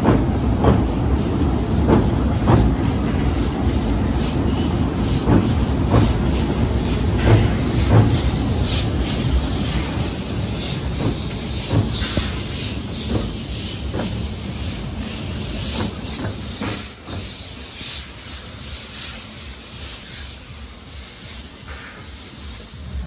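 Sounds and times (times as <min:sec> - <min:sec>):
locomotive puffs: 0:00.0 - 0:23.0
steam locomotive hissing: 0:00.0 - 0:23.0.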